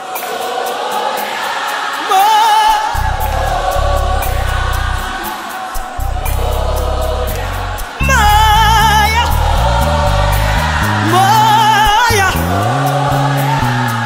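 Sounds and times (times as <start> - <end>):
gospel choir with keyboard and bass: 0.0 - 14.0
solo voice singing with vibrato: 2.0 - 14.0.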